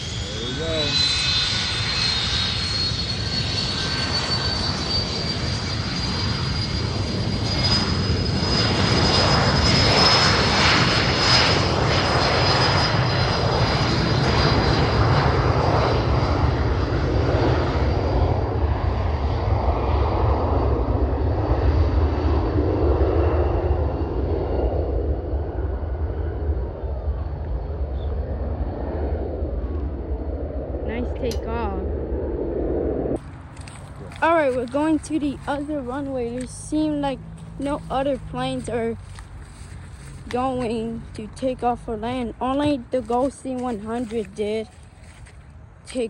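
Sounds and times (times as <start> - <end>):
jet roar: 0.0 - 46.0
jet turbine whine: 0.0 - 46.0.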